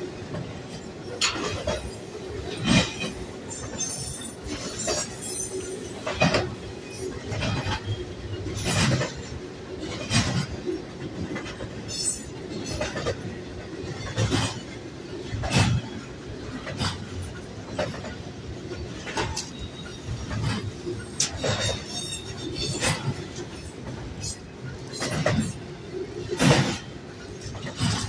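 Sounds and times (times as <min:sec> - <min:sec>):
freight train rumble: 0:00.0 - 0:28.0
train wheels clacking: 0:00.2 - 0:28.0.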